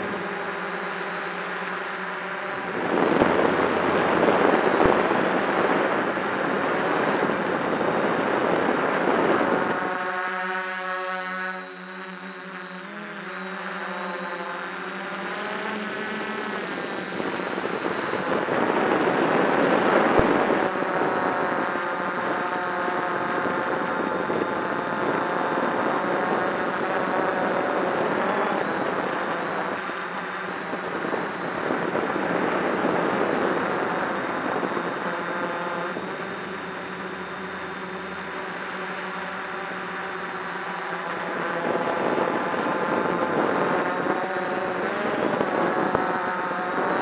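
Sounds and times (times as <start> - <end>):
drone motors buzzing: 0.0 - 47.0.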